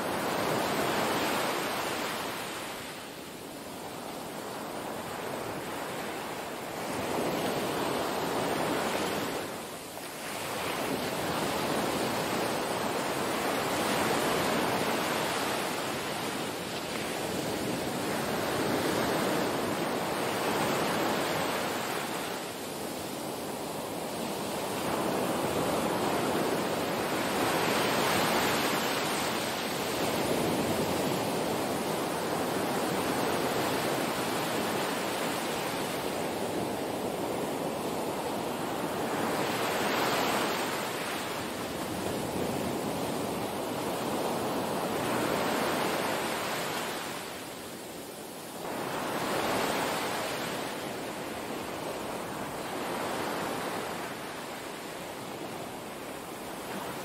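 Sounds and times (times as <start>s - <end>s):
waves washing onto sandy beach: 0.0s - 57.0s.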